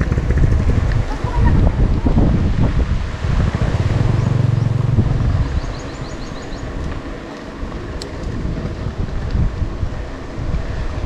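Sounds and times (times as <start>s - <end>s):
vehicle engine: 0.0s - 11.0s
wind and road rumble: 0.0s - 11.0s.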